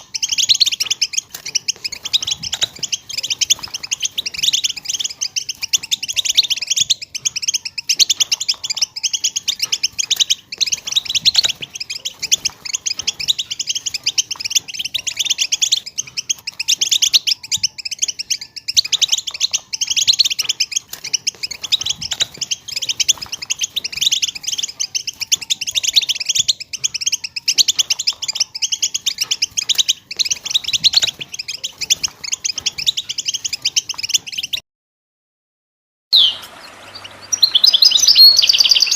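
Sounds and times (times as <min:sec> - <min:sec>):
birds chirping and twittering: 0:00.0 - 0:34.6, 0:36.2 - 0:38.9.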